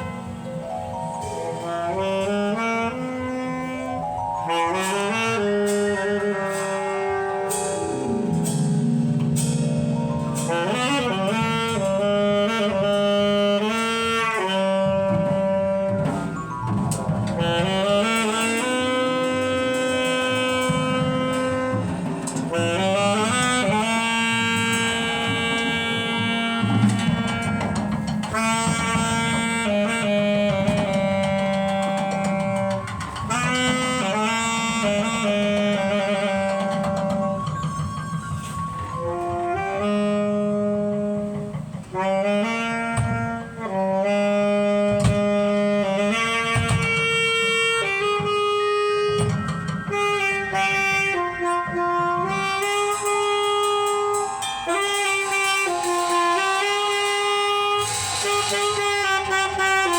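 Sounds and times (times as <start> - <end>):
jazz band accompaniment: 0.0 - 59.9
saxophone melody: 0.0 - 59.9.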